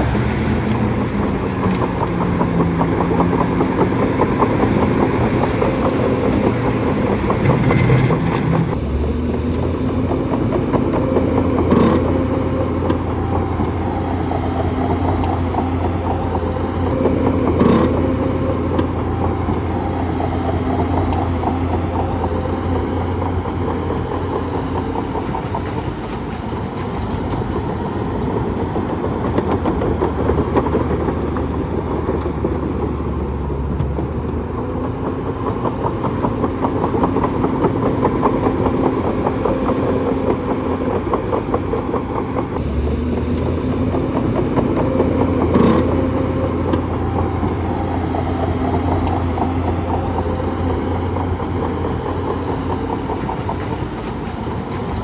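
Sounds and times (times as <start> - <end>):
bulldozer diesel engine running: 0.0 - 55.0
fast even rattle: 0.0 - 55.0.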